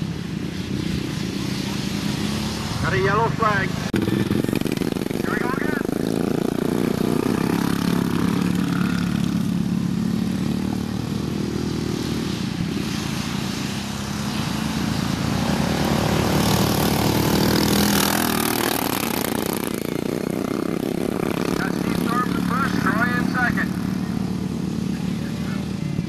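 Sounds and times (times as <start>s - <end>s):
small mower engines racing: 0.0s - 26.0s.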